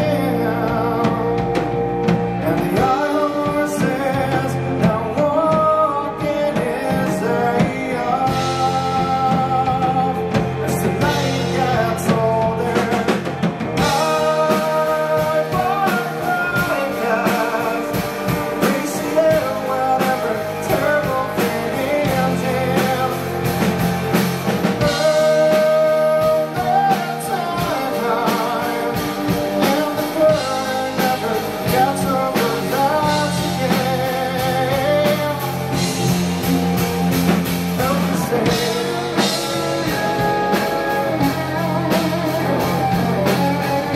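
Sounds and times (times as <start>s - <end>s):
drum kit: 0.0s - 43.9s
electric guitar: 0.0s - 43.9s
man singing: 0.0s - 43.9s.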